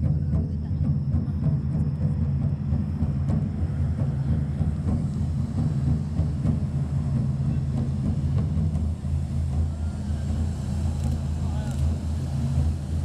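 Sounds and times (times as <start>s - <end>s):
fireworks fountains rushing: 2.4s - 13.0s.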